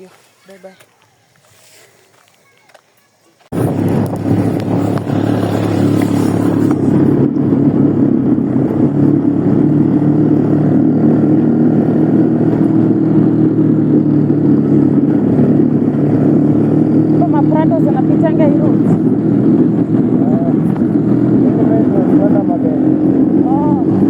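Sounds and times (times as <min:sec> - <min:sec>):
motorcycle engine running: 0:03.5 - 0:24.0.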